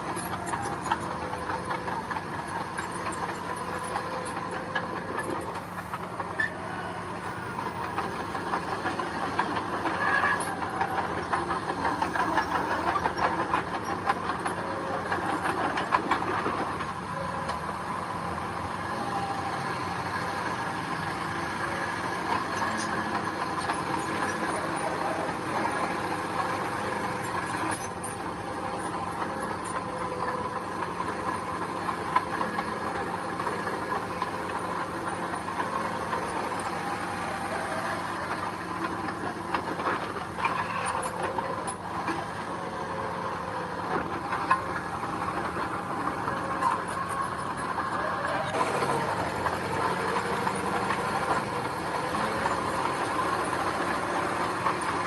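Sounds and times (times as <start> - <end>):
diesel earthmoving machinery clattering: 0.0 - 55.0.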